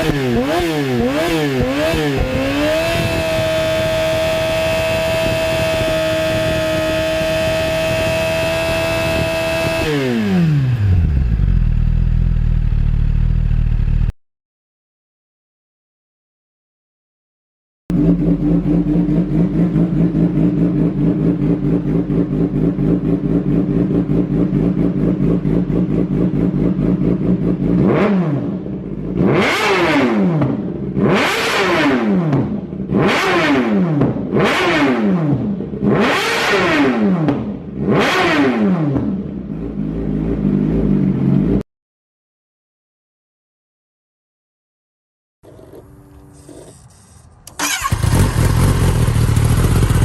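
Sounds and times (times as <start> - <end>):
motorcycle engine idling and revving: 0.0 - 14.2, 17.9 - 41.7, 45.5 - 50.0.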